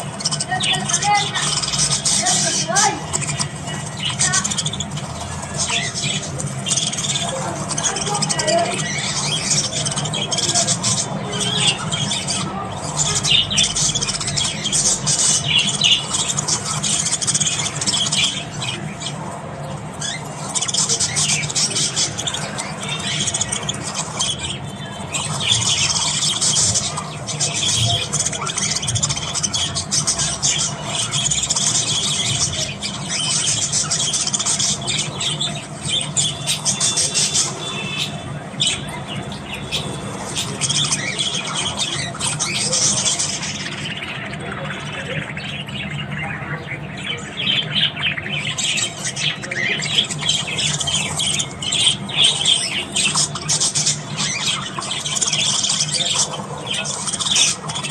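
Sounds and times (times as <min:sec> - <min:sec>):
budgerigars chattering: 0:00.0 - 0:57.9
steady low hum: 0:00.0 - 0:57.9.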